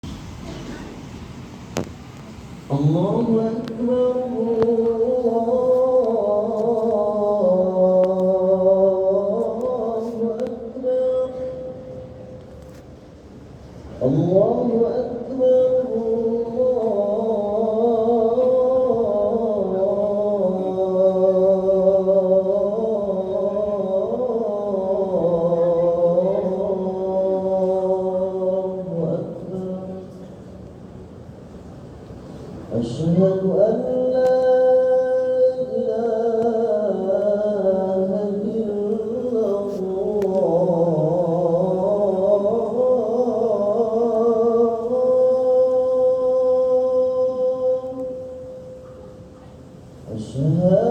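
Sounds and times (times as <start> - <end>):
person chanting call to prayer: 2.7 - 12.4, 14.0 - 30.6, 32.7 - 50.9.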